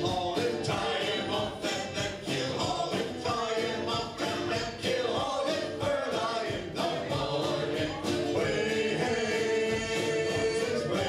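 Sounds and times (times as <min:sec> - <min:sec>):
drum beat: 0:00.0 - 0:11.0
electric guitars: 0:00.0 - 0:11.0
mandolin: 0:00.0 - 0:11.0
voices singing together: 0:00.0 - 0:11.0.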